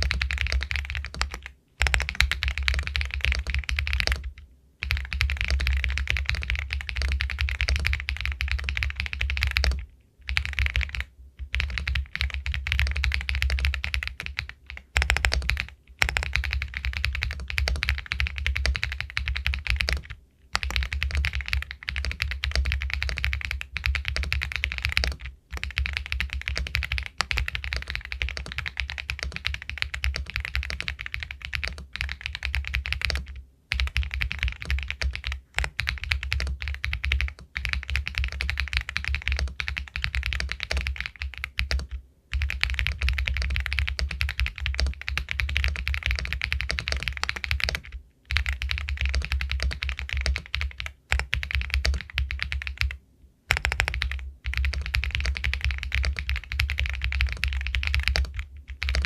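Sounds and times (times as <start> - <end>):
mechanical keyboard typing: 0.0 - 59.0.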